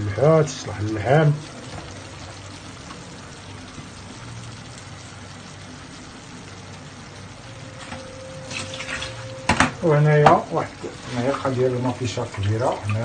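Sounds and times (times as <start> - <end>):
food sizzling and simmering: 0.0 - 13.0.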